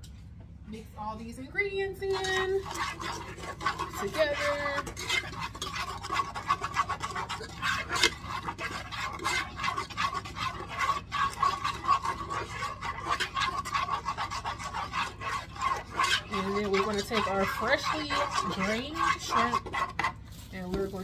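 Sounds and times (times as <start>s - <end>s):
spatula stirring liquid in pot: 1.8s - 21.0s.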